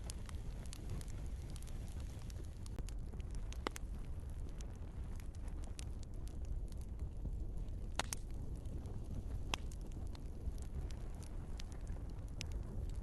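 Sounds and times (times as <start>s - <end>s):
log fire crackling: 0.0s - 13.0s.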